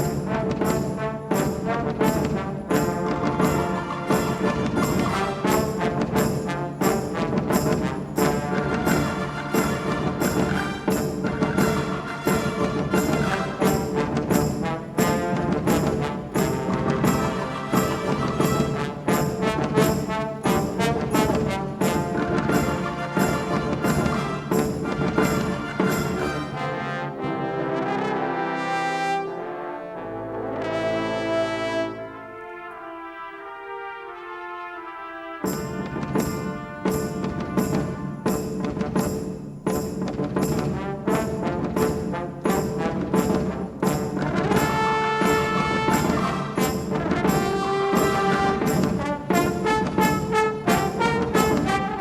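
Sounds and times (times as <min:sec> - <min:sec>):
brass ensemble chords: 0:00.0 - 0:39.2, 0:40.6 - 0:52.0
orchestral percussion: 0:00.0 - 0:52.0.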